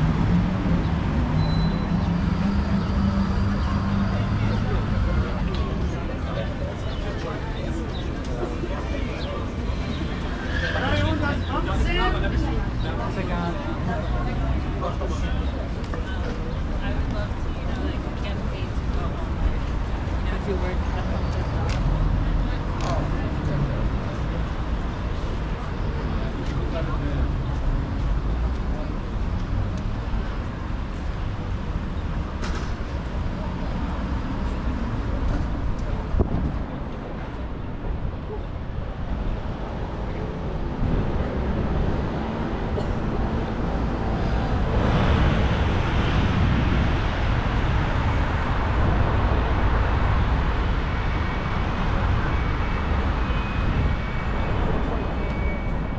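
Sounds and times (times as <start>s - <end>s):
city street traffic: 0.0s - 55.9s.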